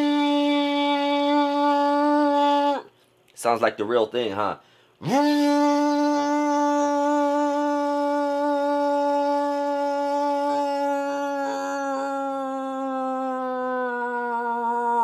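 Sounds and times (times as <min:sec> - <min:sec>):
man humming like a motor: 0:00.0 - 0:02.9, 0:05.0 - 0:15.0.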